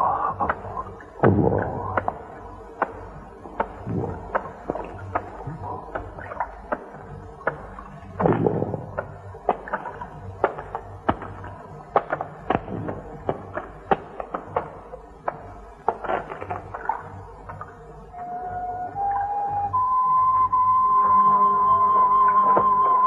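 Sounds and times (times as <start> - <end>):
faint low hum: 0.0 - 23.0
film soundtrack crackle: 0.0 - 23.0.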